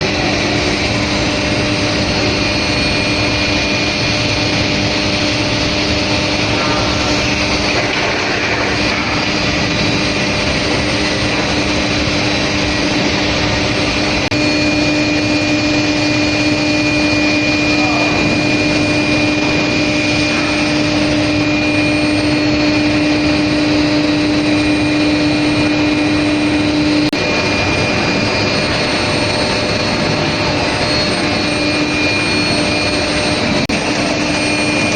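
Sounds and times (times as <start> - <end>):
high whine: 0.0 - 34.9
machine hum: 0.0 - 34.9.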